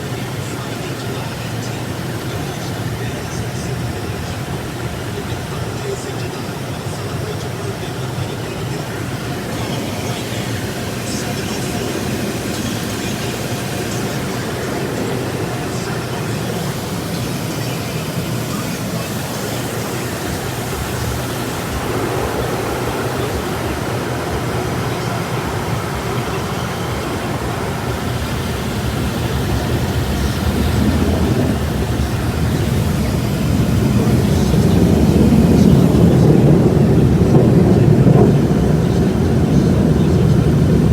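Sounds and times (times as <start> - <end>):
car wash spray and machinery: 0.0 - 40.9.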